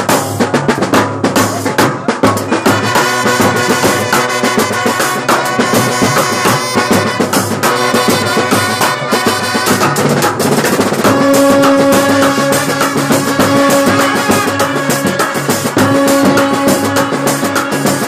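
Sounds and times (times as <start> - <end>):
drums and cymbals: 0.0 - 18.0
trumpets playing melody: 2.4 - 18.0.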